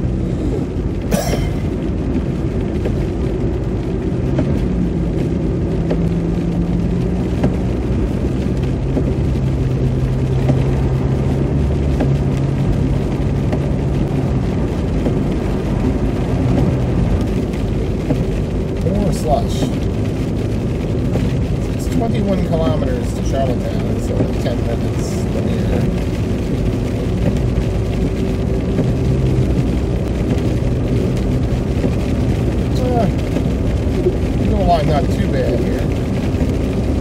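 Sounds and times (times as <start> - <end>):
tyres on wet slushy road: 0.0 - 37.0.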